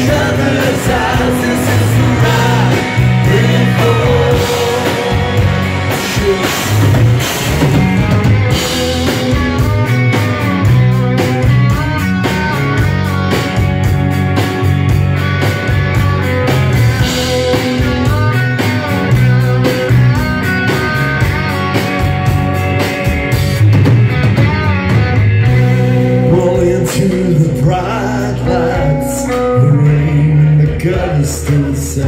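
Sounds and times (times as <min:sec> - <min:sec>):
lead guitar with bent notes: 0:00.0 - 0:31.7
rock band playing: 0:00.0 - 0:32.0.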